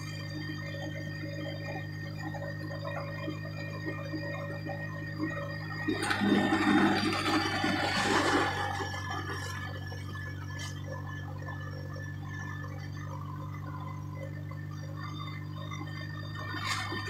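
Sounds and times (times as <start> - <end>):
engine and road drone in cabin: 0.0 - 17.0.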